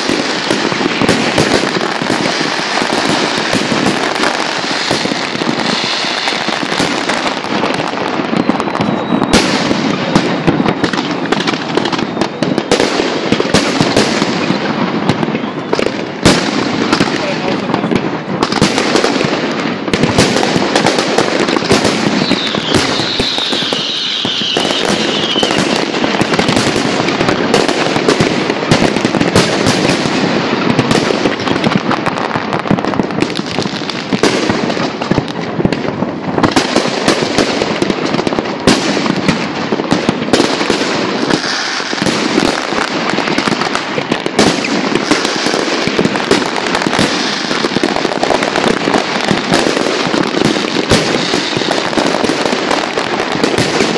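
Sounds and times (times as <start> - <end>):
fireworks crackling and banging: 0.0 - 53.9.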